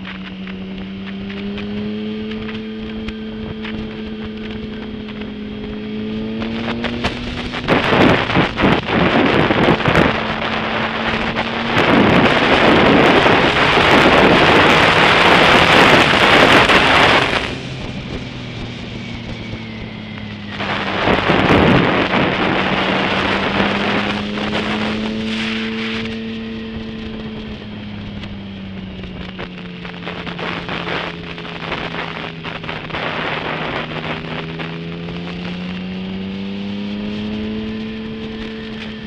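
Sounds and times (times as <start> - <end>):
motorcycle engine hum: 0.0 - 39.0
wind buffeting microphone: 0.0 - 39.0.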